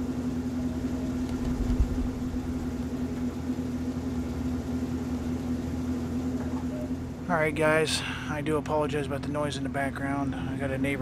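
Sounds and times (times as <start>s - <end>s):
cleaning machine motor drone: 0.0s - 11.0s.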